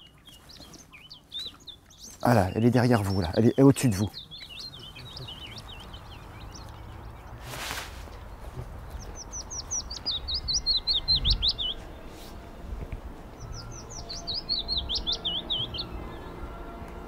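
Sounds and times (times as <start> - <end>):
bird warbling song: 0.0 - 12.5, 13.3 - 17.0.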